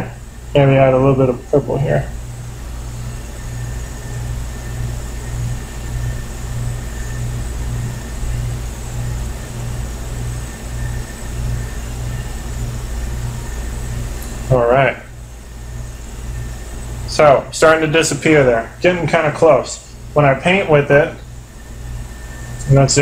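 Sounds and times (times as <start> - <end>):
low mechanical hum and rumble: 0.0 - 23.0.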